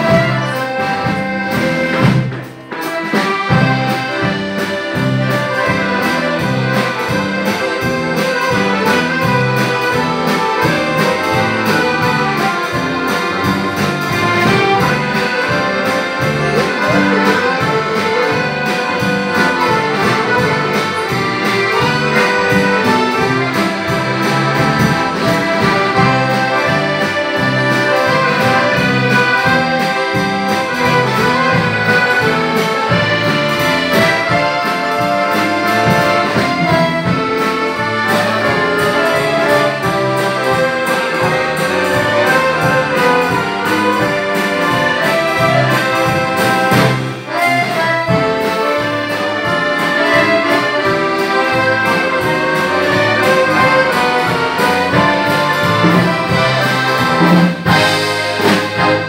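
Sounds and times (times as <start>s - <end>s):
accordion orchestra playing: 0.0s - 59.0s.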